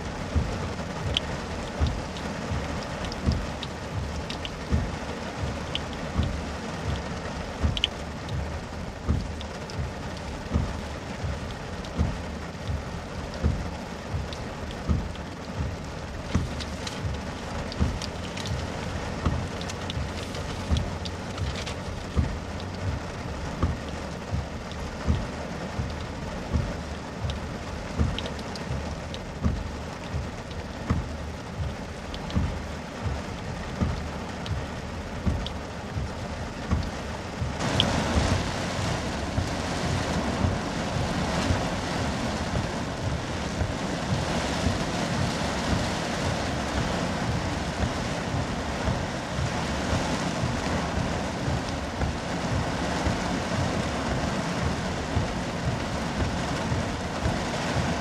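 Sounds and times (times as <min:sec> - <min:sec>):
heavy rain on car roof: 0:00.0 - 0:58.0
windshield wipers thumping: 0:00.0 - 0:58.0.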